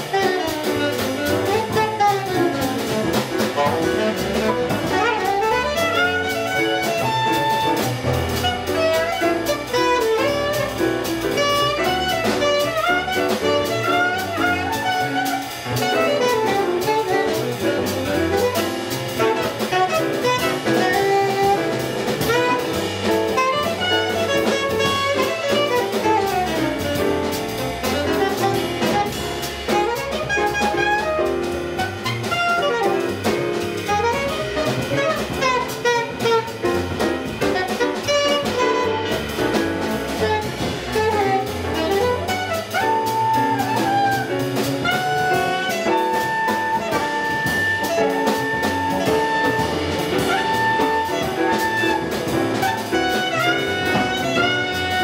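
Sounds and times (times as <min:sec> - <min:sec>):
alto saxophone: 0:00.0 - 0:55.0
drum kit: 0:00.0 - 0:55.0
piano: 0:00.0 - 0:55.0
upright bass: 0:00.0 - 0:55.0.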